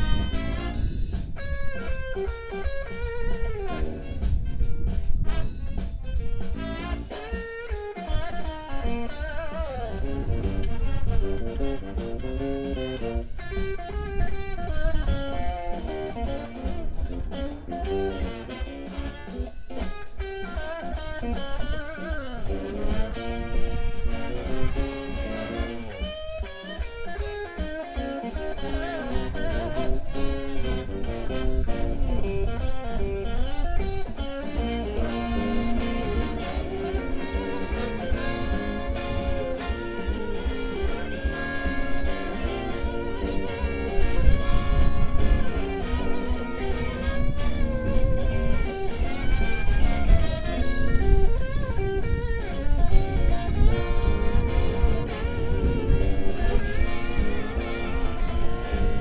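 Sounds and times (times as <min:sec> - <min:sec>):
blues guitar: 0:00.0 - 0:59.0
jazz band with drum kit: 0:00.0 - 0:59.0.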